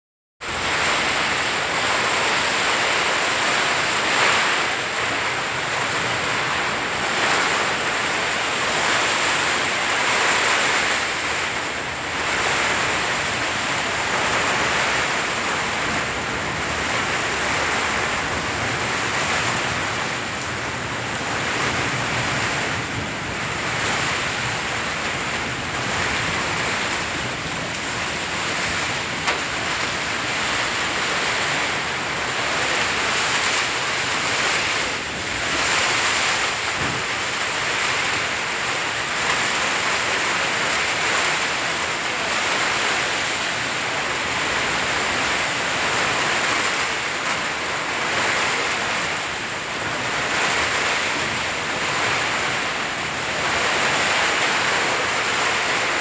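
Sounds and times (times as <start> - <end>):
rain: 0.4 - 56.0
strong gusting wind: 0.4 - 56.0.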